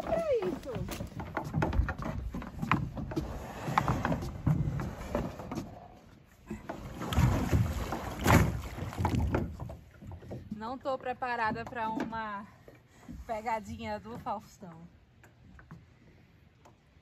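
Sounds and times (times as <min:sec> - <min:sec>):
kayak knocking and thumping: 0:00.0 - 0:14.6.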